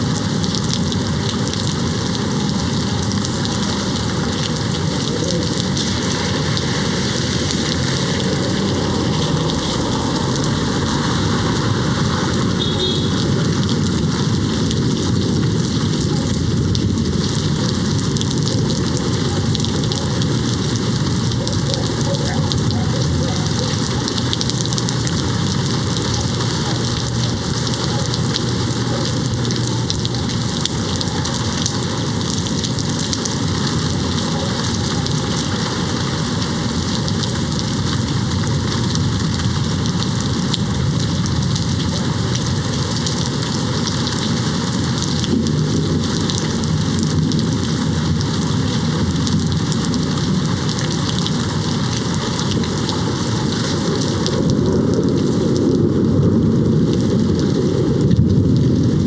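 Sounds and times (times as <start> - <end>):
heavy rain hitting a window: 0.0 - 59.0.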